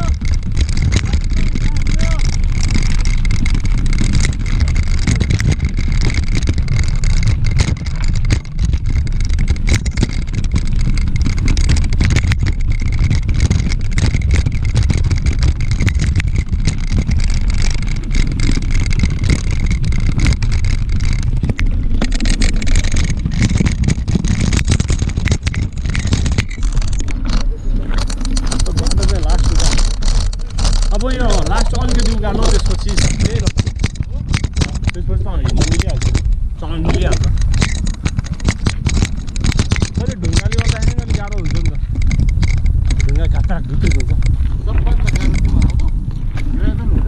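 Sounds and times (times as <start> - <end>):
bike rattling and knocking: 0.0 - 47.0
wind buffeting microphone: 0.0 - 47.0.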